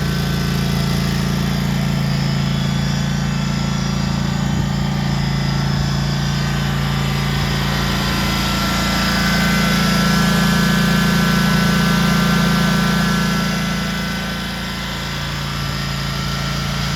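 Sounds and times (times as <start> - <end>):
mower engine running: 0.0 - 16.9.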